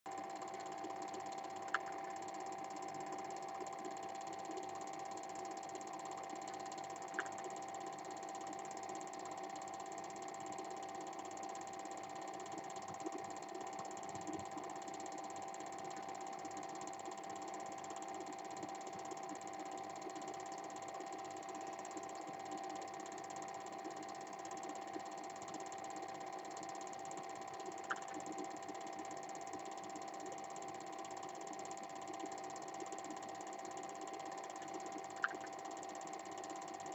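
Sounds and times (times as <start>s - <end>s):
film projector whirring: 0.1s - 36.9s.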